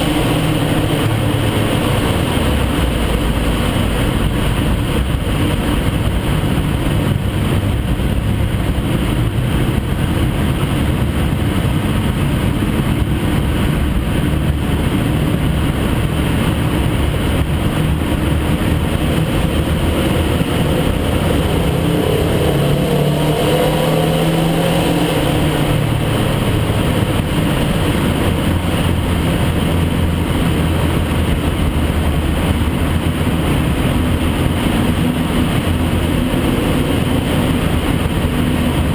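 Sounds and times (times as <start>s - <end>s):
car engine and exhaust: 0.0s - 38.9s.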